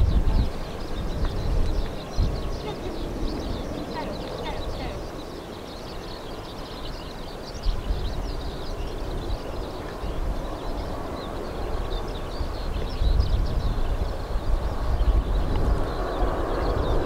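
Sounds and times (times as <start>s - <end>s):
jet engines rumbling: 0.0s - 17.0s
small birds chirping: 0.0s - 17.0s.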